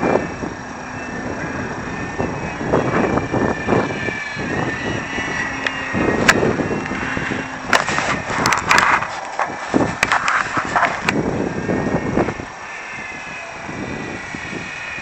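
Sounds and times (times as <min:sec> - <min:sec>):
model plane electric motor whining: 0:00.0 - 0:15.0
wind buffeting microphone: 0:00.0 - 0:15.0.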